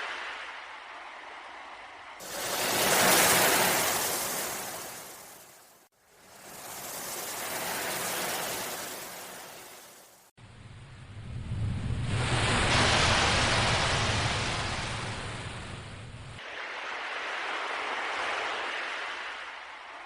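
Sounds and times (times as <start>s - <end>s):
sea waves surging: 0.0s - 10.3s, 11.8s - 20.0s.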